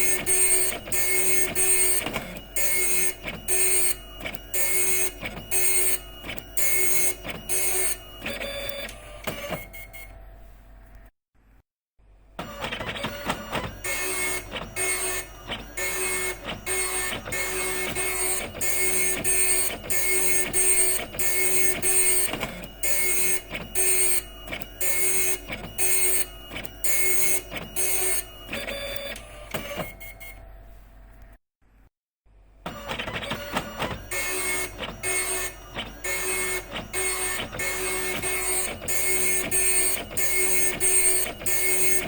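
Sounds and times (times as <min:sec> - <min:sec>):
dot matrix printer printing: 0:00.0 - 0:10.3, 0:12.4 - 0:30.6, 0:32.7 - 0:42.0.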